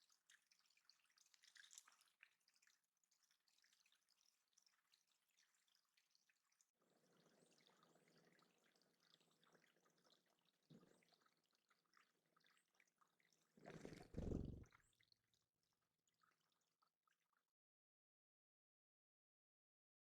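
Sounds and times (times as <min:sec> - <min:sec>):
water dripping and trickling: 0:00.0 - 0:17.5.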